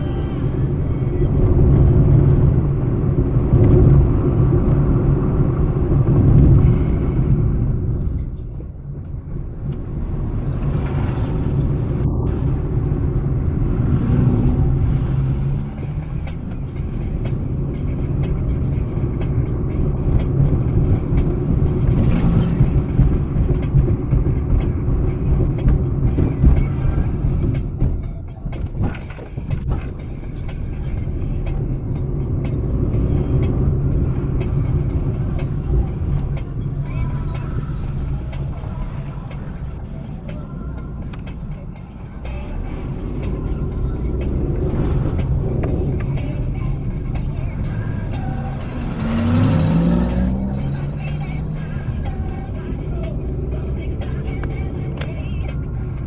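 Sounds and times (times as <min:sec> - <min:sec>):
music playing: 0:00.0 - 0:07.4, 0:10.7 - 0:56.0
car engine and road noise: 0:00.0 - 0:56.0.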